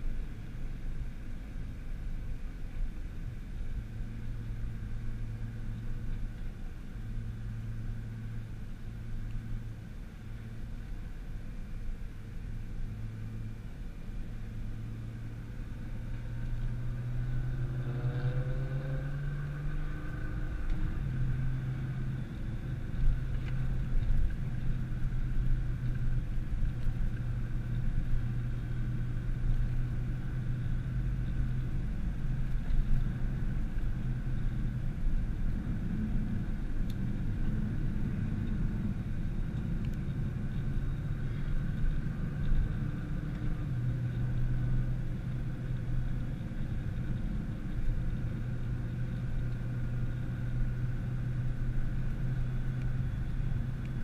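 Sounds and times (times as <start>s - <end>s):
car engine droning: 0.0s - 54.0s
tyre and road noise: 0.0s - 54.0s.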